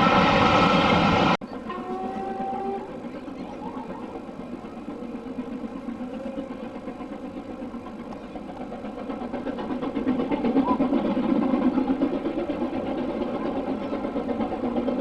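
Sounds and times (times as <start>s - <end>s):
steam locomotive exhaust beat: 0.0s - 15.0s.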